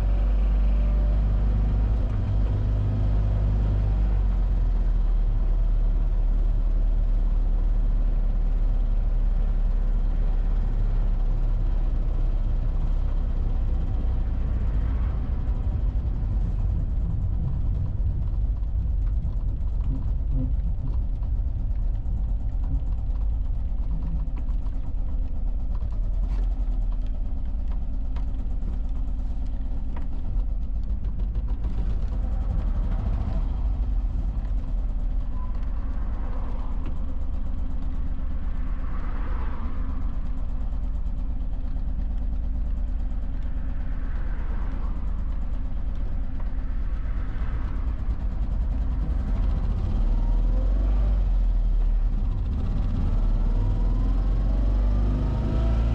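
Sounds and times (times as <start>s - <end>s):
car engine running: 0.0s - 55.9s
road and wind noise: 0.0s - 55.9s.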